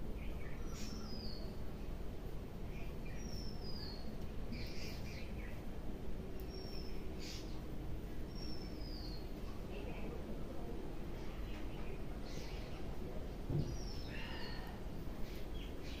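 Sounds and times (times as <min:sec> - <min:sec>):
steady low background noise: 0:00.0 - 0:16.0.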